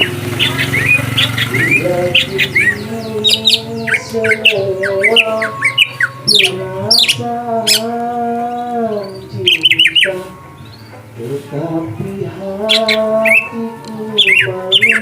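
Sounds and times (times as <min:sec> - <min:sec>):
birds chirping: 0:00.0 - 0:15.0
song with sung vocal: 0:00.0 - 0:15.0.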